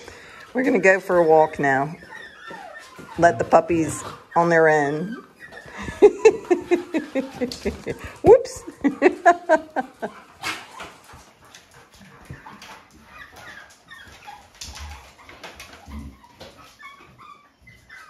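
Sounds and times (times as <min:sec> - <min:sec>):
puppies whimpering and whining: 0:00.0 - 0:18.0.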